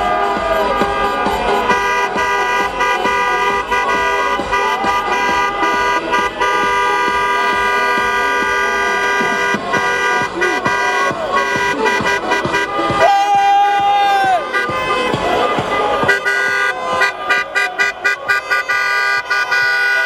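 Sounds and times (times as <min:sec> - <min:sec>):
horns blaring together: 0:00.0 - 0:20.0.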